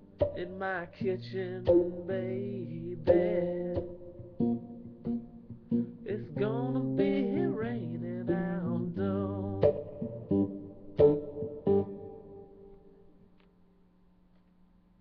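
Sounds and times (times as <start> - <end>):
acoustic blues guitar: 0.0 - 12.2.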